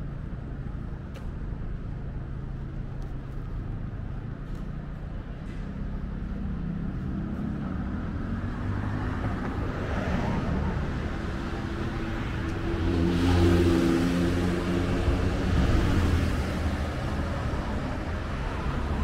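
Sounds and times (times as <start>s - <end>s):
road traffic: 0.0s - 19.0s
vehicle engine rumble: 0.0s - 19.0s.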